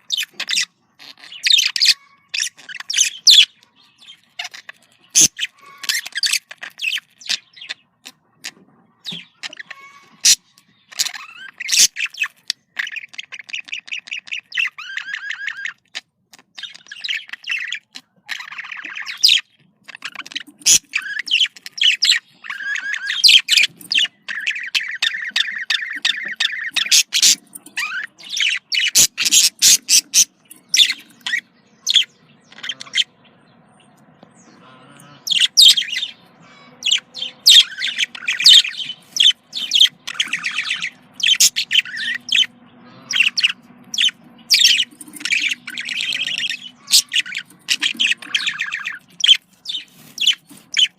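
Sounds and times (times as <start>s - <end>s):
budgerigars chattering and warbling: 0.0s - 50.9s.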